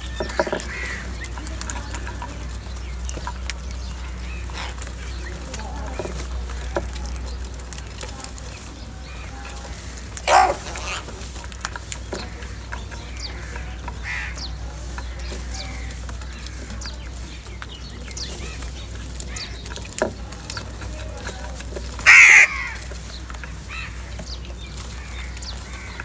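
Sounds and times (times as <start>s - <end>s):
crows cawing: 0.0s - 7.4s, 9.0s - 17.2s, 18.4s - 26.0s
bird clicks and chirps: 0.0s - 26.0s.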